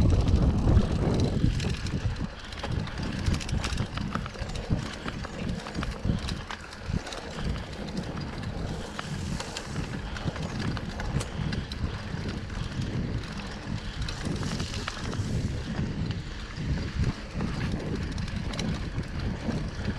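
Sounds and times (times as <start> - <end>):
bike clicking and rattling: 0.0 - 19.9
bike tyres rolling over dirt: 0.0 - 19.9
wind rumble on microphone: 0.0 - 19.9.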